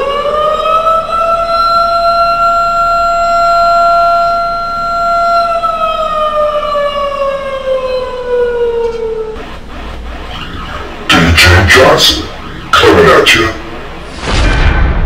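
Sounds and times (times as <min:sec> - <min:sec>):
air-raid siren wailing: 0:00.0 - 0:14.3.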